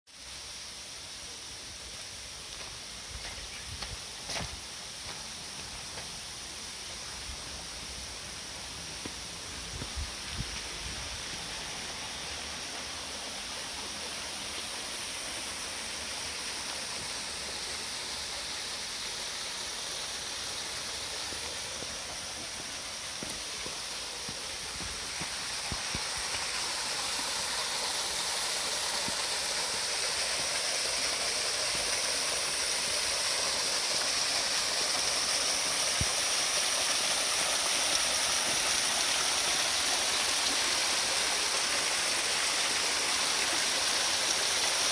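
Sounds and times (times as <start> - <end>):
waterfall splashing: 4.2 - 44.9.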